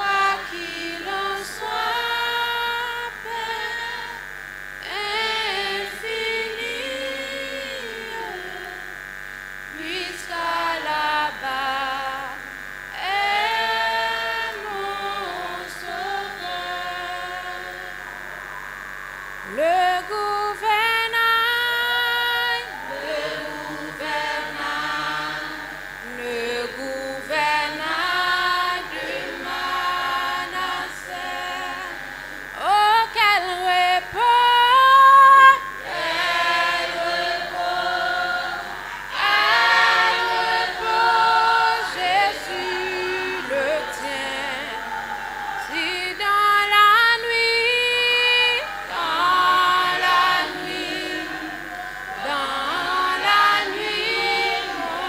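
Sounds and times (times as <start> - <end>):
youth choir singing a hymn: 0.0 - 55.0.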